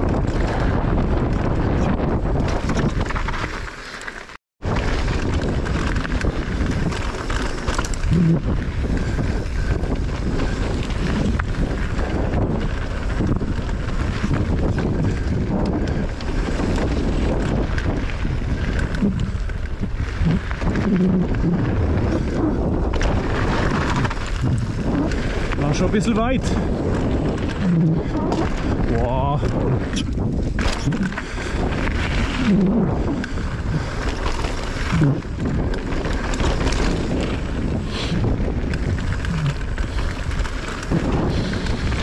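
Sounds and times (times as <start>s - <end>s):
wind rushing over microphone: 0.0s - 3.4s, 4.6s - 42.0s
bike rattling: 0.0s - 42.0s
bike tyres rolling: 0.0s - 42.0s.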